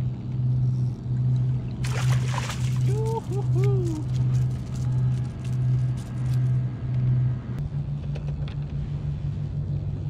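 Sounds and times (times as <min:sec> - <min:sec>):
low pulsing motor hum: 0:00.0 - 0:10.0.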